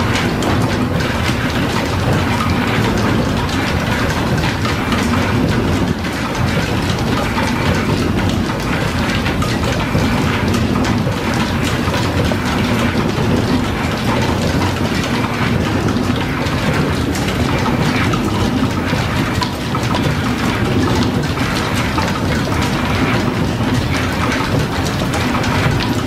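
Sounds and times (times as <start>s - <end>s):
line shaft and belts running: 0.0s - 26.0s.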